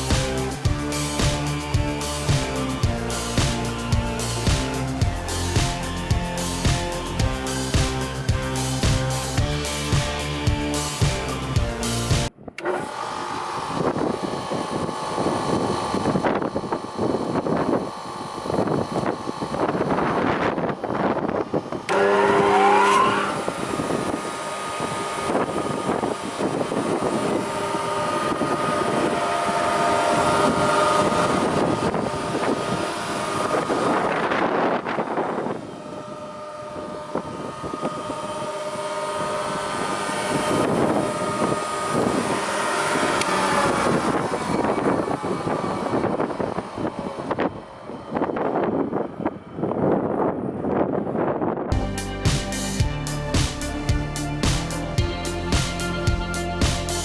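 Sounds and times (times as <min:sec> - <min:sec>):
spindle moulder whining: 0:00.0 - 0:50.3.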